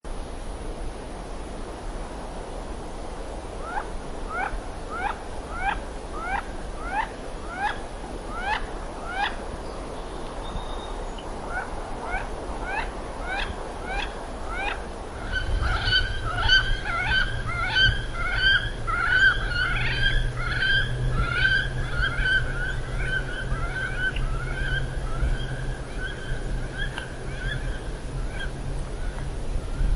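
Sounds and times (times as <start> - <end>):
wood ducks calling: 3.6 - 9.4, 11.5 - 29.9.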